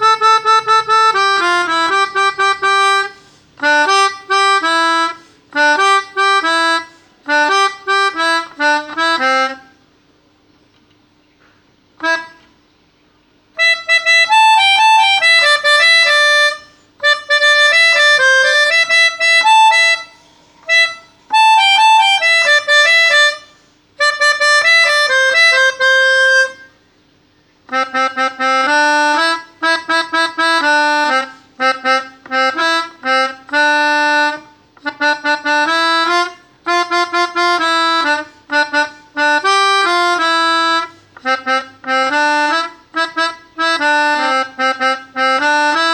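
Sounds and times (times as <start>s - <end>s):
melodica playing a melody: 0.0s - 9.8s, 12.0s - 12.7s, 13.5s - 26.8s, 27.6s - 45.9s.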